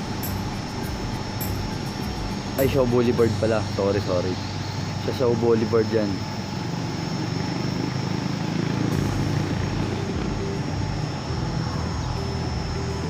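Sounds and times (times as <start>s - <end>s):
faint high steady tone: 0.0s - 7.7s, 9.0s - 13.0s
city traffic and machinery drone: 0.0s - 13.0s.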